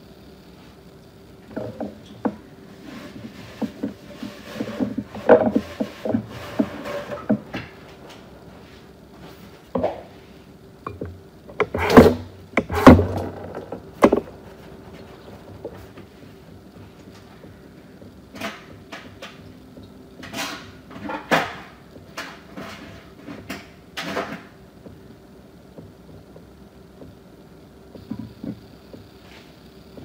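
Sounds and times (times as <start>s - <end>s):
faint steady hum: 0.0s - 30.0s
objects knocking and rattling: 1.4s - 10.2s, 10.8s - 25.0s, 27.9s - 29.0s.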